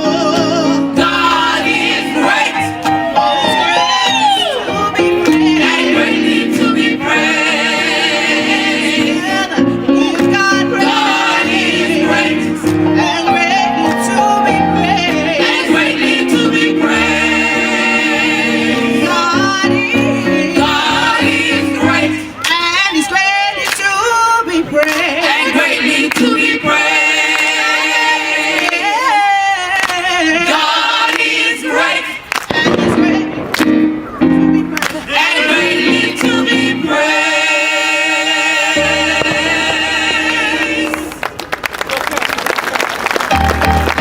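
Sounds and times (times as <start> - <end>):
gospel choir singing: 0.0 - 33.6, 34.8 - 41.4.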